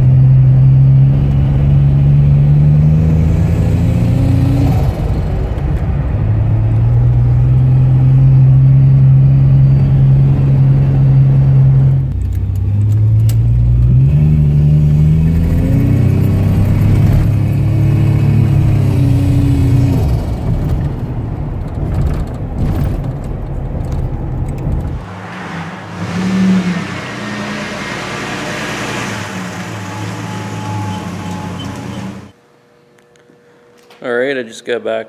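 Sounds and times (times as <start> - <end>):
road noise: 0.0 - 32.4
truck engine accelerating: 0.0 - 32.4.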